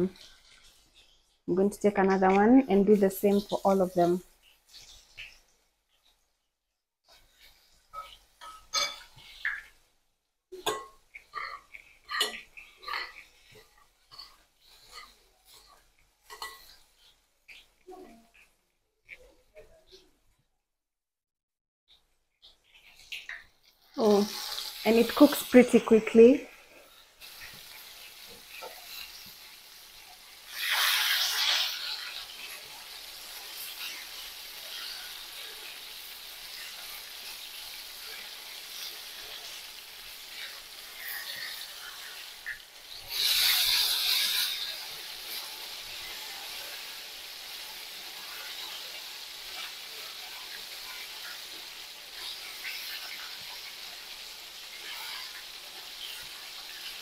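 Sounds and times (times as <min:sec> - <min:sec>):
deep-frying sizzle: 0:00.0 - 0:20.1, 0:21.9 - 0:57.0.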